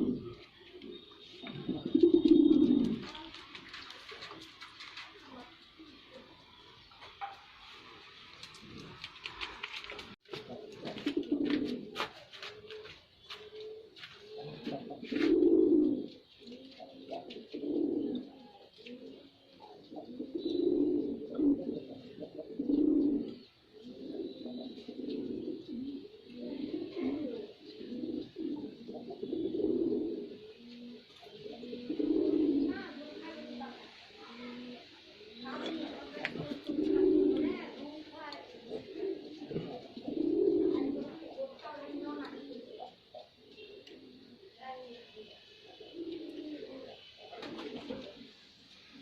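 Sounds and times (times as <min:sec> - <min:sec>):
pigeon cooing: 0:00.0 - 0:06.4, 0:10.2 - 0:48.4.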